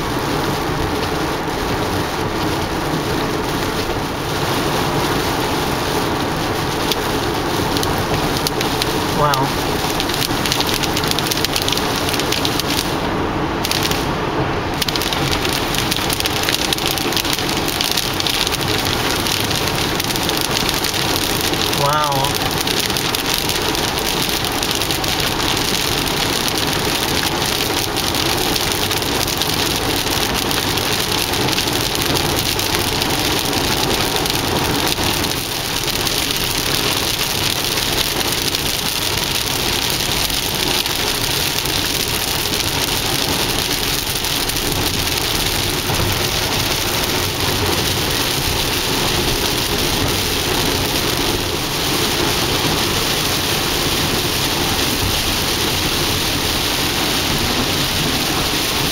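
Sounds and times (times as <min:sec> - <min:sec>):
heavy rain on car roof: 0:00.0 - 0:58.9
tyres hissing on wet road: 0:00.0 - 0:58.9.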